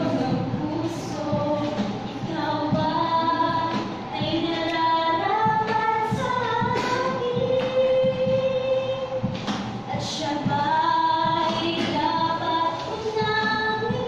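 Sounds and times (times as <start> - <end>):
instrumental accompaniment with beat: 0.0 - 14.0.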